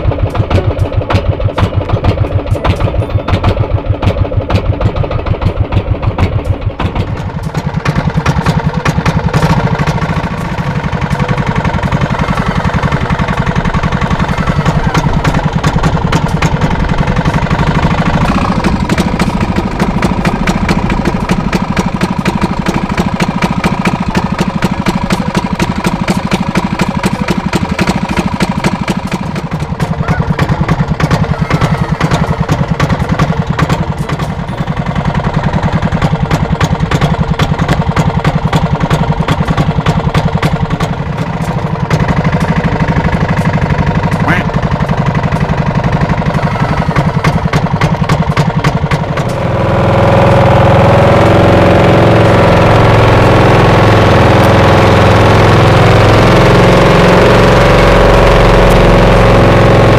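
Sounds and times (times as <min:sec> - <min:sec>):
small boat engine puttering: 0:00.0 - 0:59.9.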